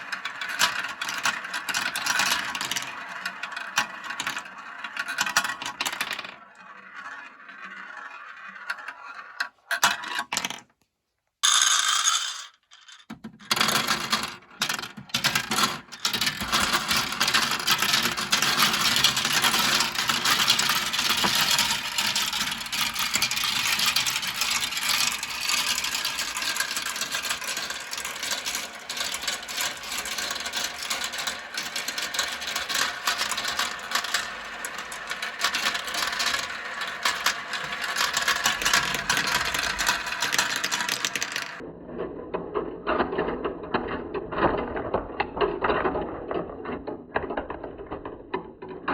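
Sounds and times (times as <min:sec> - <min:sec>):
marbles rattling down plastic track: 0:00.0 - 0:10.6, 0:11.4 - 0:48.9.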